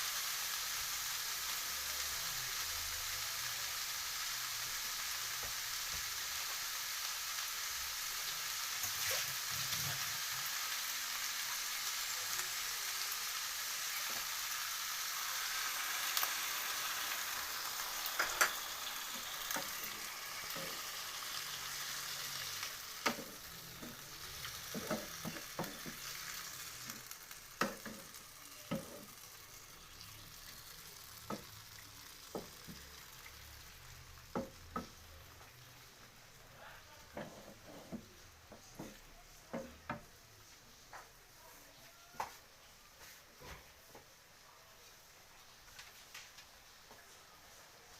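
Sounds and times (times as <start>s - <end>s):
food sizzling in a pan: 0.0s - 47.9s.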